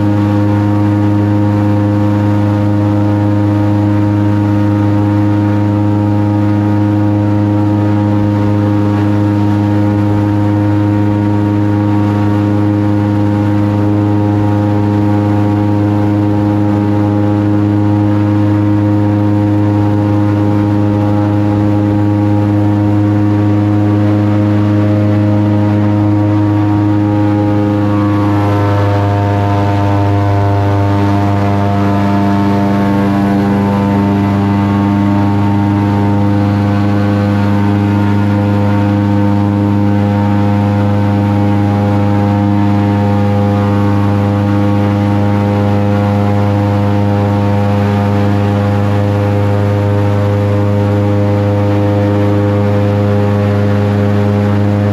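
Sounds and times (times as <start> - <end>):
airboat engine and propeller drone: 0.0 - 54.9.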